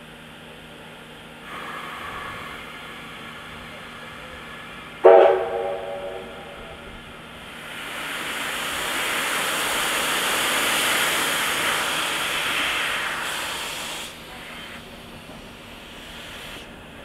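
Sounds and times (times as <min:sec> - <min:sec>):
steam locomotive hissing: 0:01.2 - 0:17.0.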